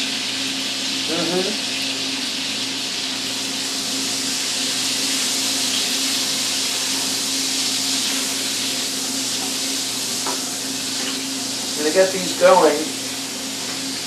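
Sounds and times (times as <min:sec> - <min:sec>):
onions sizzling in a pan: 0:00.0 - 0:14.0.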